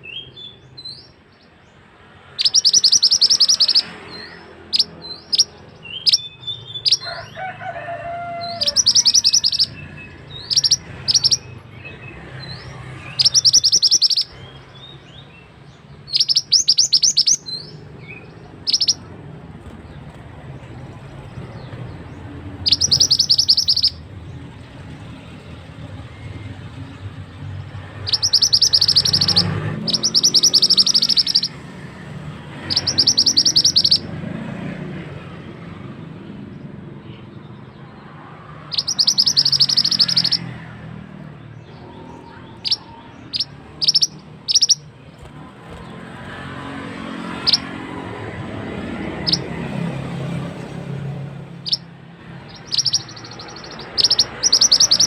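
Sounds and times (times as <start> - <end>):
bird trilling: 2.2 - 20.2, 21.2 - 25.0, 25.8 - 34.2, 38.6 - 49.6, 51.1 - 55.0.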